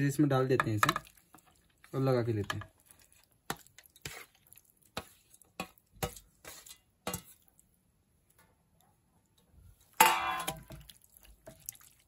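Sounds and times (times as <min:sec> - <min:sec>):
wet squelches of marinating chicken: 0:00.9 - 0:12.0.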